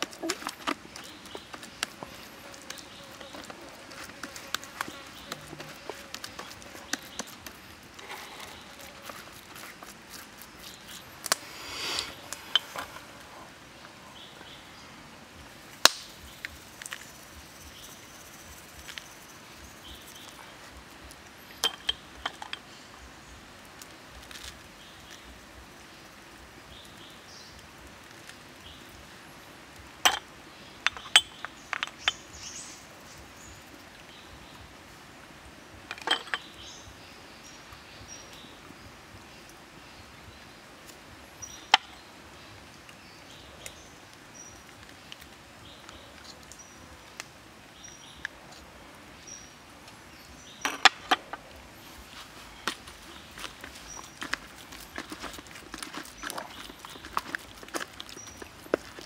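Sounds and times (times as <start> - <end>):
faint background hiss: 0.0 - 59.0.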